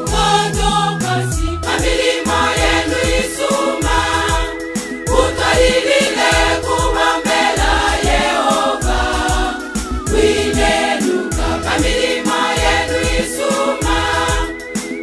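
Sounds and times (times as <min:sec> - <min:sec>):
band with bass and beat: 0:00.0 - 0:15.0
gospel choir singing: 0:00.0 - 0:15.0.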